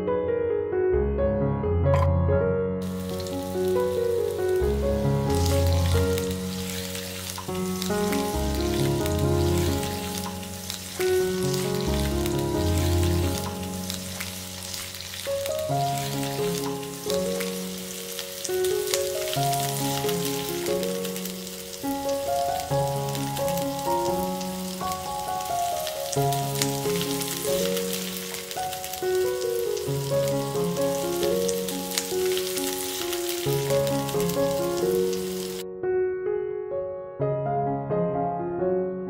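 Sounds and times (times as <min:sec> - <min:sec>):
gentle keyboard music: 0:00.0 - 0:39.0
vegetables sizzling in oil: 0:02.8 - 0:35.6.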